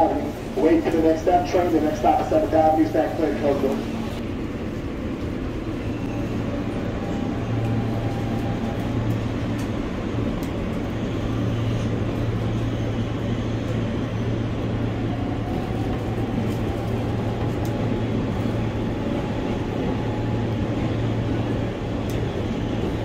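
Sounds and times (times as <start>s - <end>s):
subway motors humming: 0.0s - 23.0s
wheels rumbling on rail: 0.0s - 23.0s.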